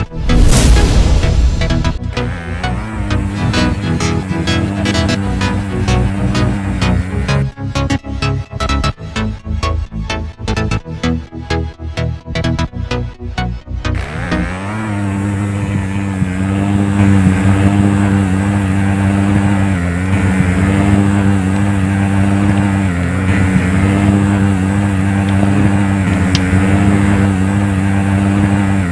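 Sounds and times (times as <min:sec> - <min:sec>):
small motor fan humming: 0:00.0 - 0:08.8, 0:13.8 - 0:28.9.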